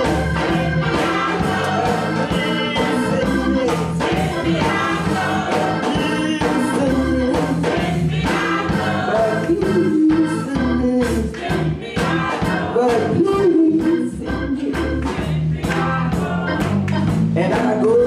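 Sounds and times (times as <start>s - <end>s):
choir singing: 0.0s - 17.0s
bass line: 0.0s - 18.0s
drum beats: 0.0s - 18.0s.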